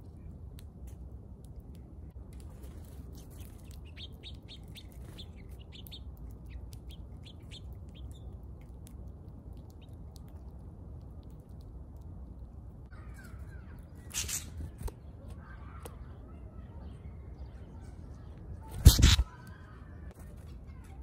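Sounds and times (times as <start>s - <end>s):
steady low rumble: 0.0s - 20.2s
small birds chirping: 0.0s - 21.0s.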